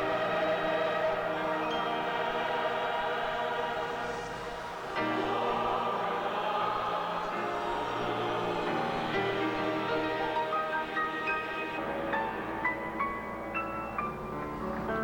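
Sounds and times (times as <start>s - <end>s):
choir singing held chords: 0.0s - 12.7s.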